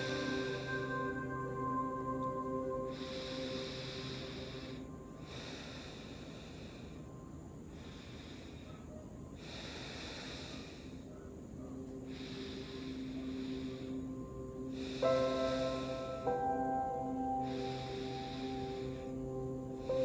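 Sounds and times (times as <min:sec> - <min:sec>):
gentle background music: 0:00.0 - 0:20.0
person breathing slowly: 0:00.0 - 0:20.0.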